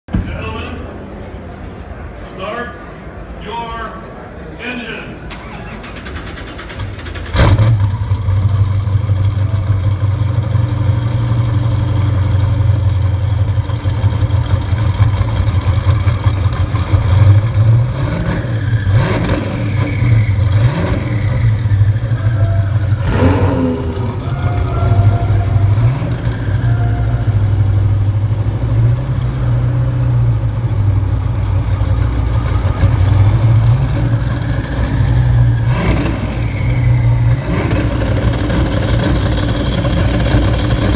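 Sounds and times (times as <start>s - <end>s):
car engine idling: 5.8s - 40.9s.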